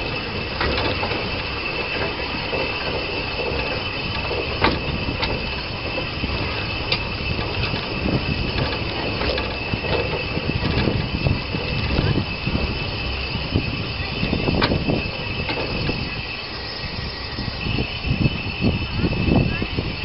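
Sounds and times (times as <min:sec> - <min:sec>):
wheel clicks on rails: 0:00.0 - 0:19.6
train running along track: 0:00.0 - 0:20.0.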